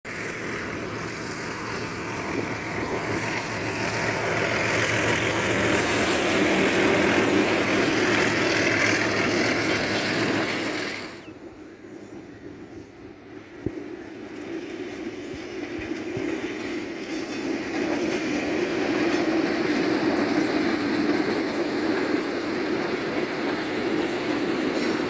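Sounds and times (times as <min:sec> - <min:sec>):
diesel locomotive engine drone: 0:00.0 - 0:25.0
train wheels on rails: 0:00.0 - 0:25.0.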